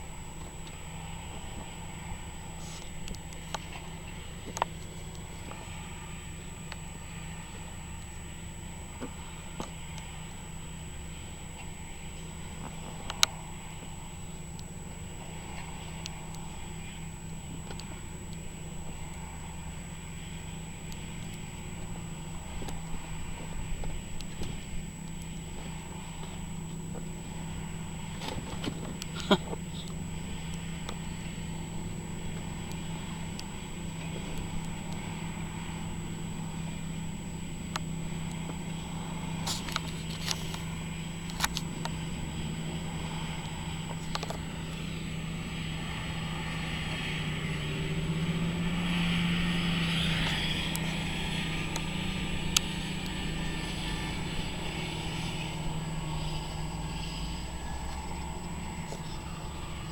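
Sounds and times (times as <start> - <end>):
harvesting machinery engine running: 0.0 - 59.9.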